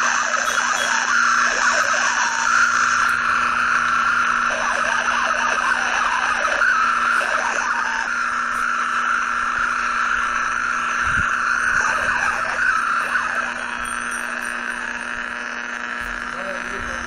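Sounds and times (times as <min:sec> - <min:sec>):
low hum: 0:00.0 - 0:17.0
radio static hiss: 0:00.0 - 0:17.0
warbling tones: 0:00.0 - 0:17.0.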